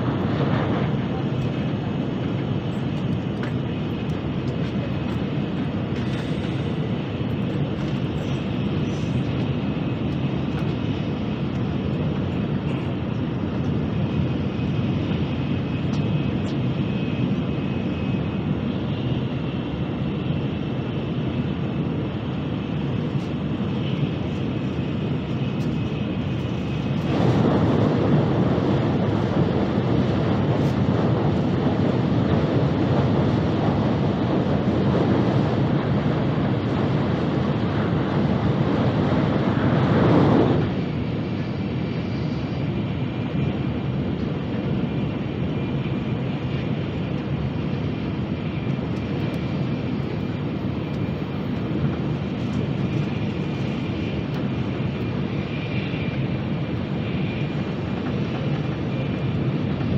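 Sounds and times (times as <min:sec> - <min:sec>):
train rushing rumble inside cabin: 0:00.0 - 0:59.9.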